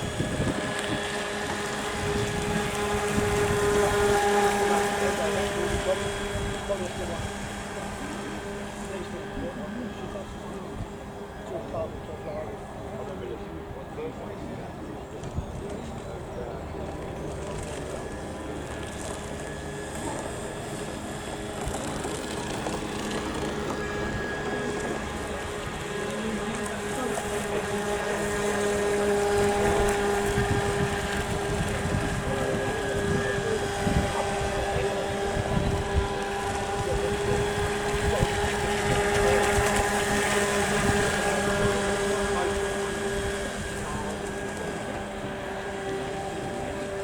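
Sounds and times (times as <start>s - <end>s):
small boat motor whining: 0.0s - 47.0s
wind rumbling on microphone: 0.0s - 47.0s.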